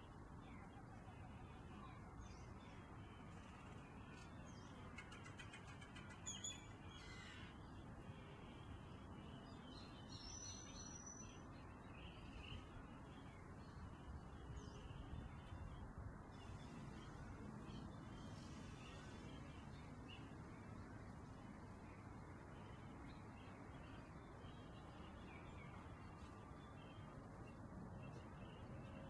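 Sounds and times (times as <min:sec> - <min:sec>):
low background hiss: 0:00.0 - 0:29.0.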